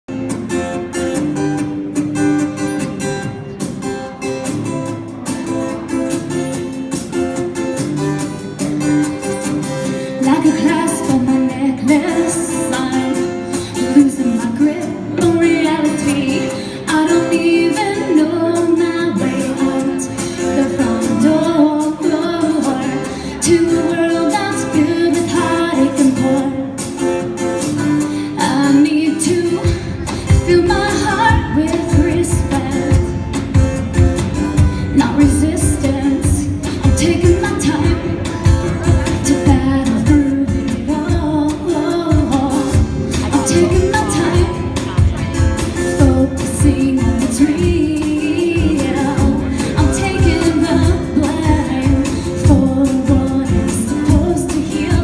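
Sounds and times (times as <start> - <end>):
song with singing and guitar: 0.1 - 55.0.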